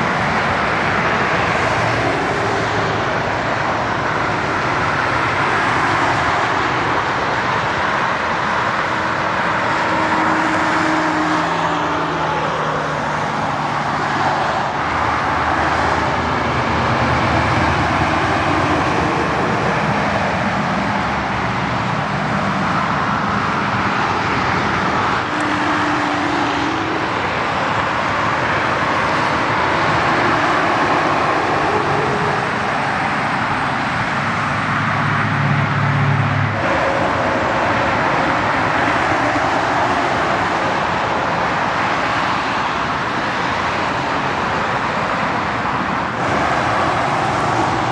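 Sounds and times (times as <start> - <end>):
truck engines droning: 0.0 - 47.9
tyre roar of passing vehicles: 0.0 - 47.9.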